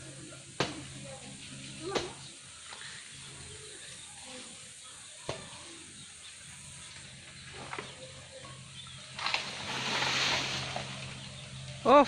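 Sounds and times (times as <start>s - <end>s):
leaves and plants rustling: 0.0s - 12.0s.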